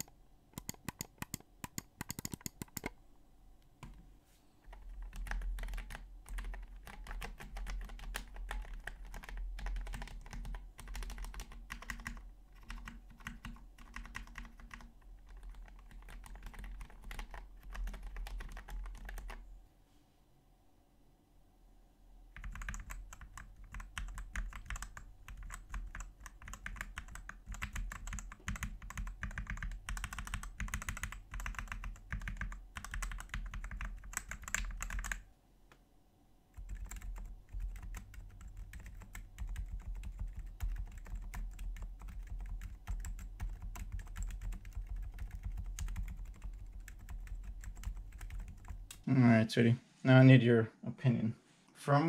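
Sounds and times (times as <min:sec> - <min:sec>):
clacky mechanical keyboard typing: 0:00.0 - 0:02.9, 0:04.7 - 0:19.4, 0:22.3 - 0:35.3, 0:36.6 - 0:49.0
dull silent keyboard keystrokes: 0:00.0 - 0:03.0, 0:03.7 - 0:19.4, 0:22.3 - 0:35.8, 0:36.5 - 0:49.0.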